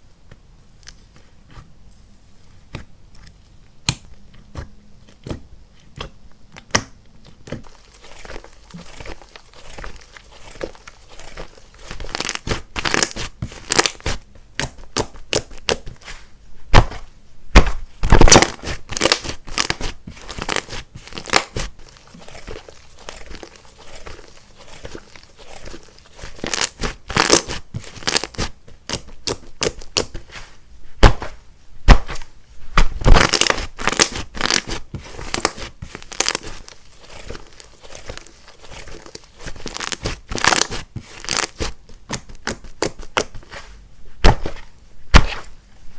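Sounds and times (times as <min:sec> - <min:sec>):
hands squishing slime: 0:02.6 - 0:45.6.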